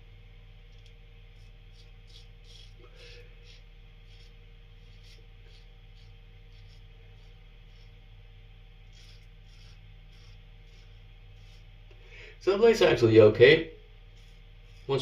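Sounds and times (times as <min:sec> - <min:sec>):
steady low hum: 0:00.0 - 0:15.0
razor scraping stubble: 0:01.3 - 0:12.0, 0:13.4 - 0:15.0.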